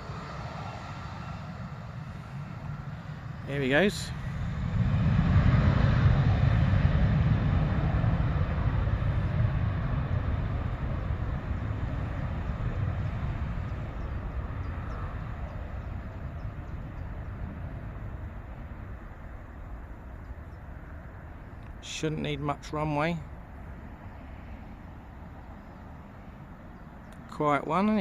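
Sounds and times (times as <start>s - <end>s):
jet engines roaring at take-off: 0.0s - 28.0s.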